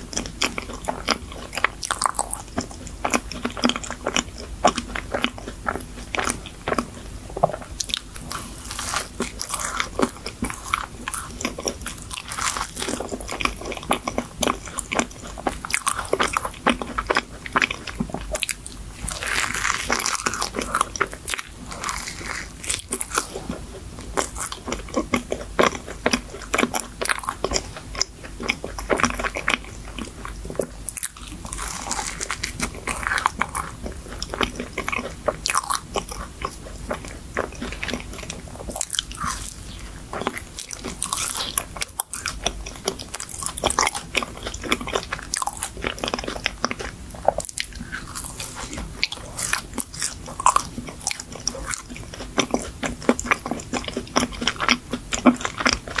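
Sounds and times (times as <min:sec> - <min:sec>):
person chewing pastry: 0:00.0 - 0:56.0.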